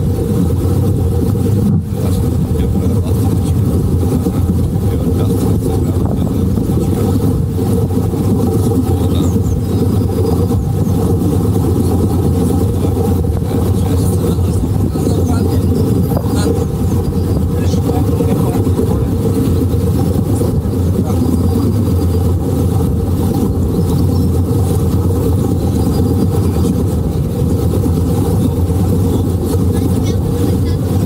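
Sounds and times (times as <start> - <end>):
boat motor running: 0.0 - 31.0.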